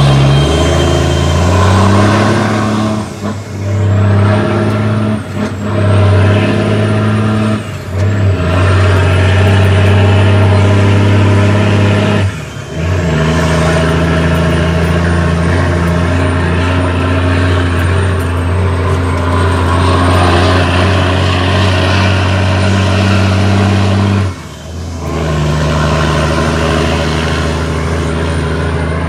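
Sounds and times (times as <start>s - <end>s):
diesel truck engine pulling: 0.0s - 29.0s.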